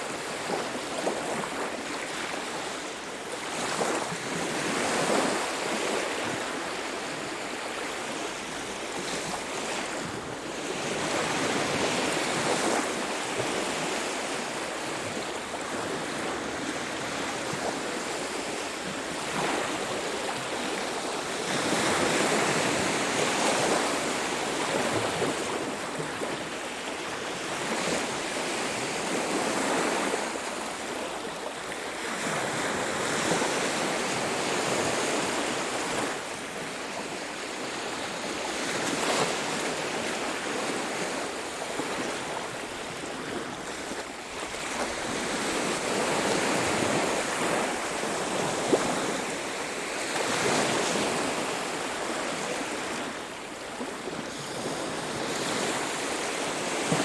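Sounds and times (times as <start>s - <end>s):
sea waves breaking on beach: 0.0s - 57.0s
wind: 0.0s - 57.0s.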